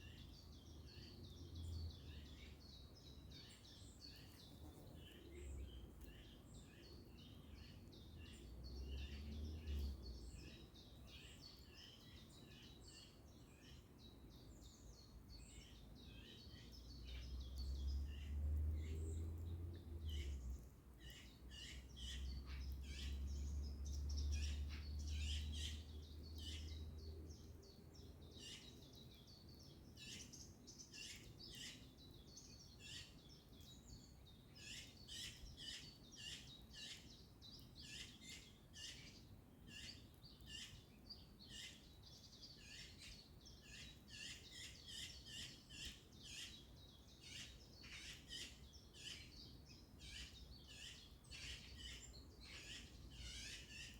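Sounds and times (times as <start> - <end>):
birds chirping and singing: 0.0 - 53.9.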